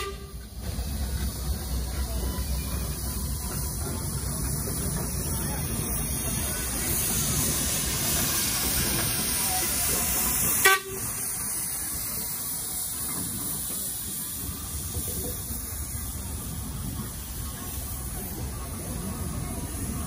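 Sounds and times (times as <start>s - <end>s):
steam roller hissing: 0.0s - 20.0s.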